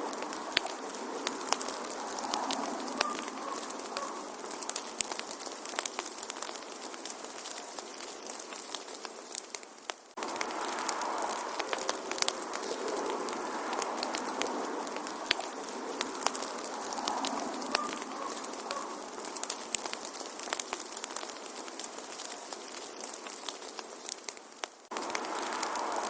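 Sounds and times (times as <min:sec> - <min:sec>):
fire hiss: 0:00.0 - 0:26.0
fire pops and snaps: 0:00.0 - 0:26.0.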